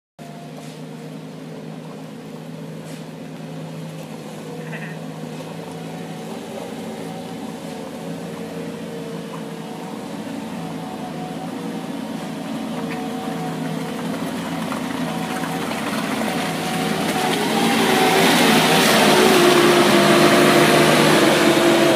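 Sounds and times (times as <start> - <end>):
wheel loader diesel engine: 0.2 - 21.9.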